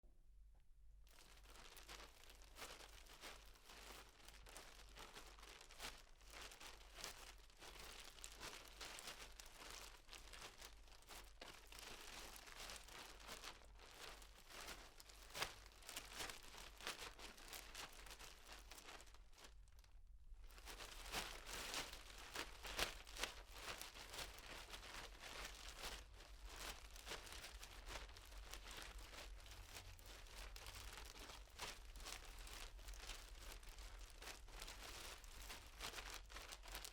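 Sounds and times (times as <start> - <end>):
plastic bag crinkling: 1.1 - 19.8, 20.5 - 36.9.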